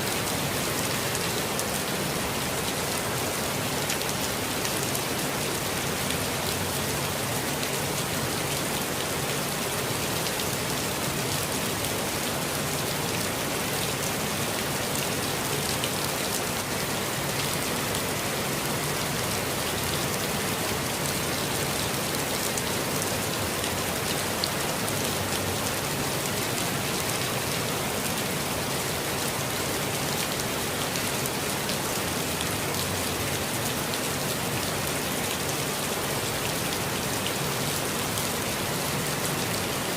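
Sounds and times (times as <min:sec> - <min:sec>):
rain falling on a forest: 0:00.0 - 0:39.9.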